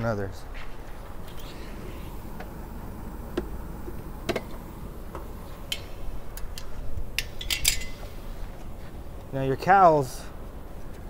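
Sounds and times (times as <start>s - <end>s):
low steady rumble: 0.8s - 11.0s.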